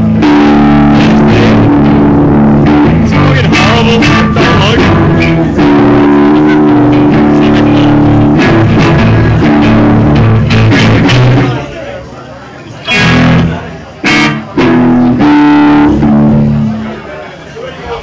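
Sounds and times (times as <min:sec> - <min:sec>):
electric guitars and bass chords: 0:00.0 - 0:11.8, 0:12.8 - 0:17.0.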